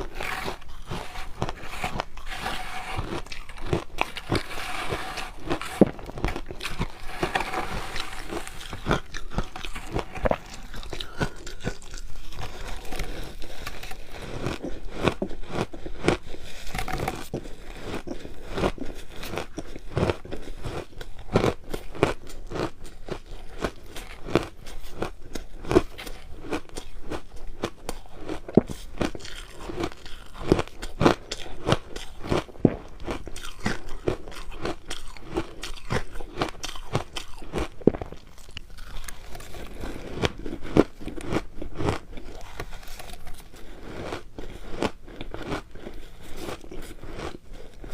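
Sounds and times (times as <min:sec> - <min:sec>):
crunching ice: 0:00.0 - 0:47.9.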